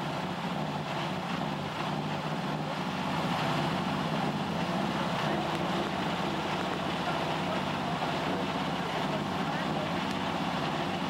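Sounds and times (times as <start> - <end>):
car engine idling at low revs: 0.0 - 11.0.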